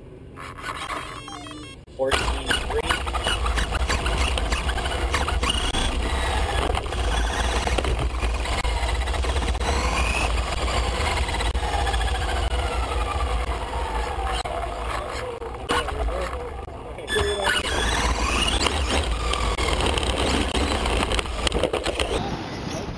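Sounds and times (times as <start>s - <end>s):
remote-control car motor whining: 0.4s - 22.2s.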